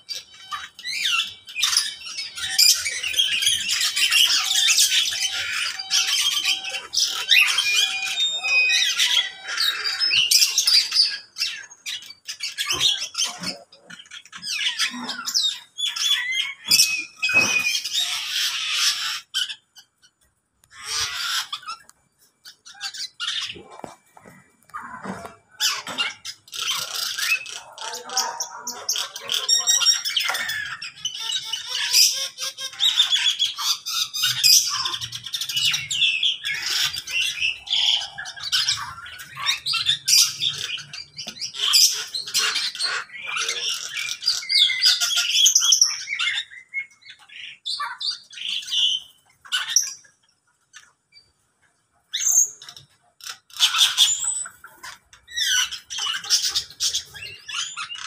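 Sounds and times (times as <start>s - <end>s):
birds squawking and chattering: 0.0s - 58.0s.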